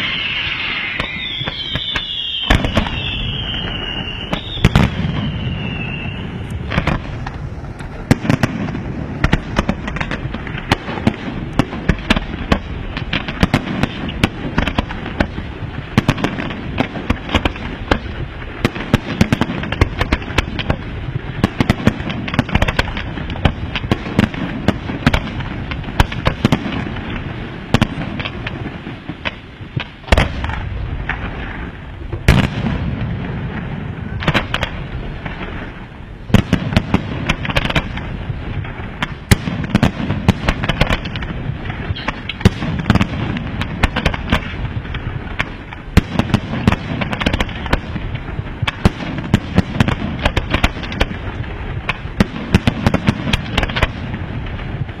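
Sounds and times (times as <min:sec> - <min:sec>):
fireworks bangs and crackle: 0:00.0 - 0:55.0
heavy firework booms: 0:00.0 - 0:55.0.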